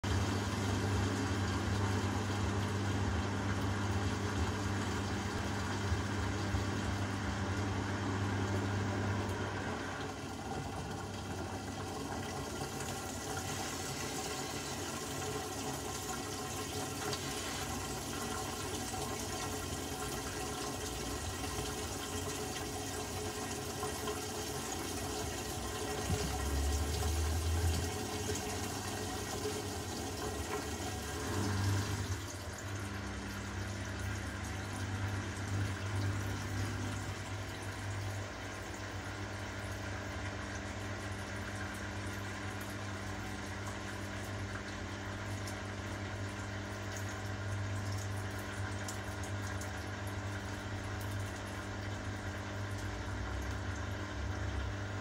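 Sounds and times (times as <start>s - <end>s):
water sloshing in washing machine: 0.0s - 55.0s.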